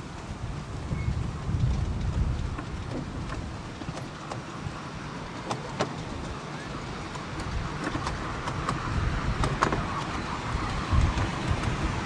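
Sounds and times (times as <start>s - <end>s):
train wheels rumbling on track: 0.0s - 12.0s
sharp track clicks: 1.2s - 12.0s.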